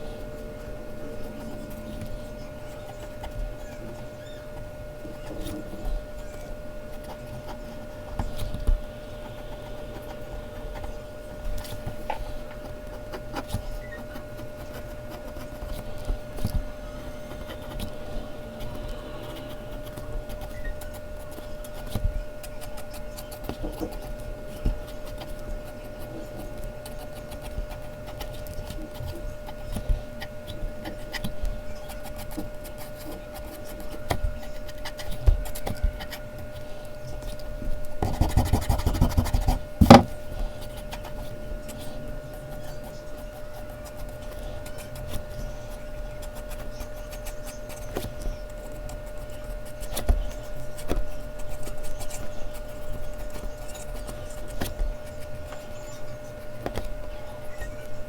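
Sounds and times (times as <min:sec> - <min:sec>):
faint steady hum: 0:00.0 - 0:58.0
pencil scratching on paper: 0:00.0 - 0:58.0
rubbing on paper: 0:00.0 - 0:58.0.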